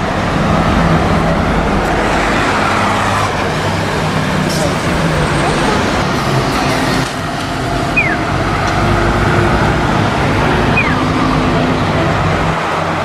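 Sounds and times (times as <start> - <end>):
bus diesel engine running: 0.0 - 13.0
road traffic: 0.0 - 13.0.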